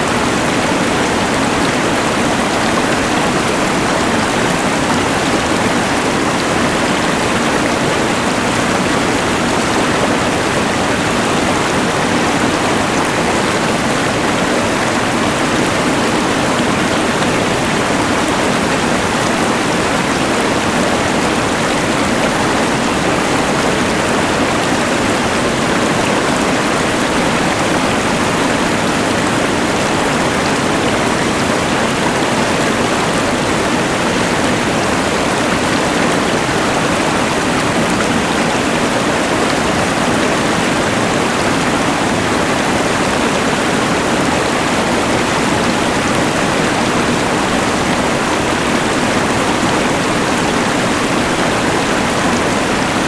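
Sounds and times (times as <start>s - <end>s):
rushing river water: 0.0s - 53.0s.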